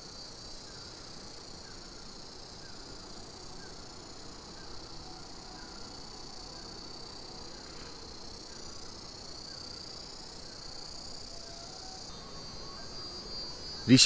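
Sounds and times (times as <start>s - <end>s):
insects shrilling: 0.0s - 14.0s.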